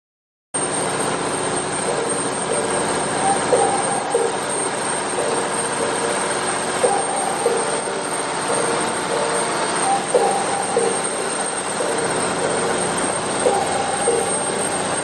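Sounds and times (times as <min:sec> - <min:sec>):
boat diesel engine drone: 0:00.6 - 0:15.0.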